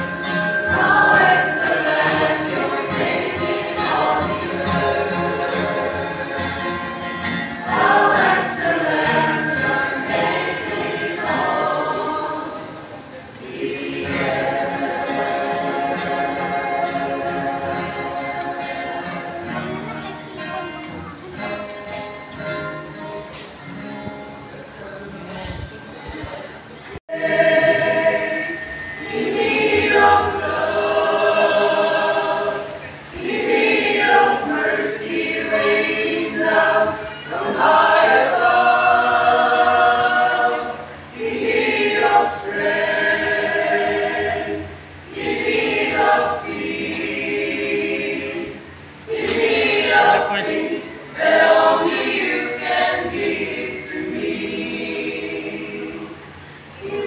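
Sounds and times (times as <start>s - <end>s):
choir singing a hymn: 0.0s - 20.5s, 27.1s - 57.0s.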